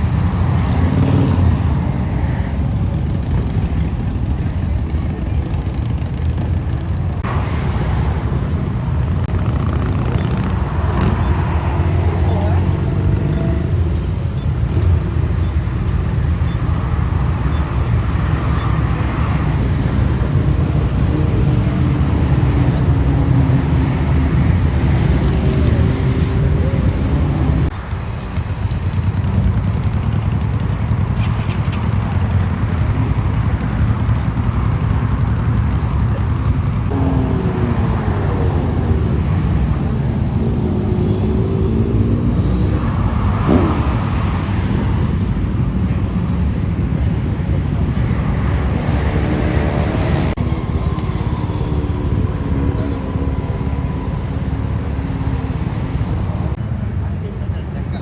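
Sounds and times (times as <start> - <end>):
highway traffic rumble: 0.0 - 58.0
motorcycle engines passing: 0.0 - 58.0.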